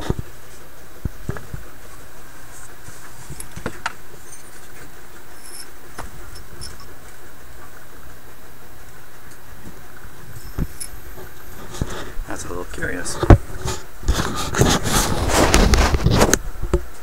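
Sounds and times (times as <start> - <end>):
steady background hiss: 0.0 - 14.6.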